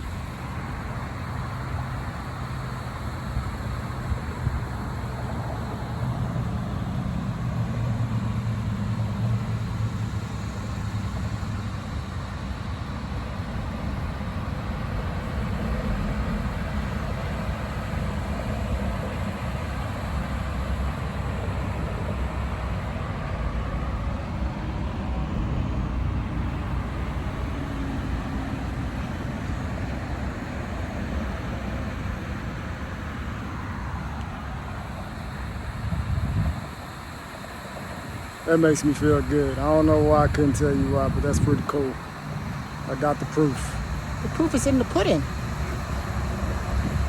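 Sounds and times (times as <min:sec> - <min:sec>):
road traffic rumble: 0:00.0 - 0:47.0.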